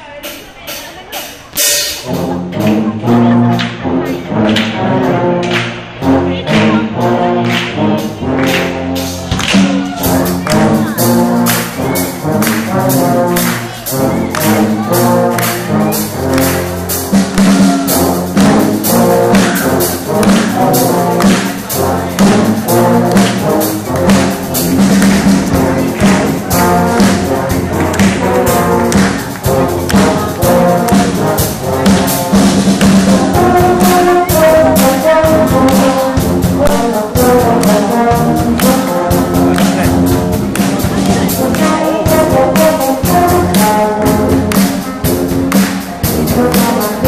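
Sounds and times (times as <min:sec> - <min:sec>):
percussion hits: 0:00.0 - 0:47.0
brass ensemble playing: 0:00.7 - 0:47.0.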